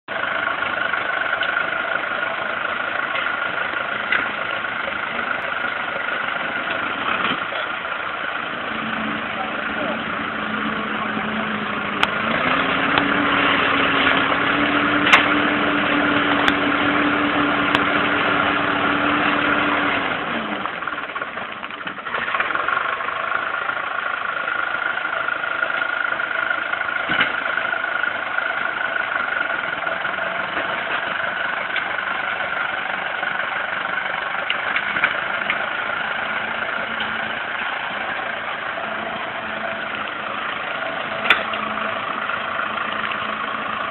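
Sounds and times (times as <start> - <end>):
tractor diesel engine: 0.0 - 43.9.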